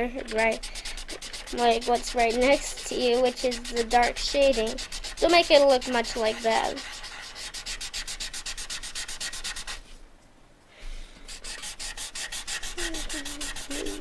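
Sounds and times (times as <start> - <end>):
pencil scratching on paper: 0.0 - 9.8, 11.2 - 14.0.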